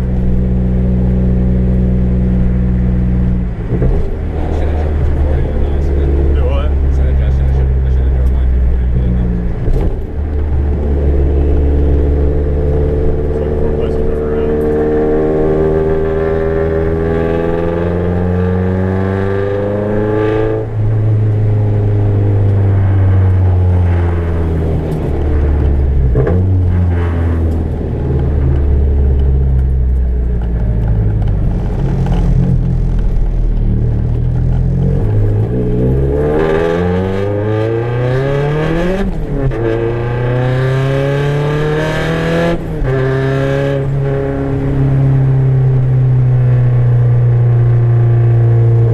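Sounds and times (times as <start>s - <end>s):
turbocharged car engine accelerating: 0.0s - 48.9s.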